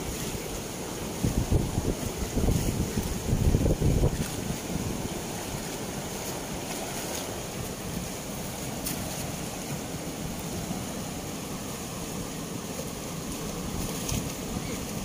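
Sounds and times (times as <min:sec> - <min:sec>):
turbulent river water rushing: 0:00.0 - 0:15.0.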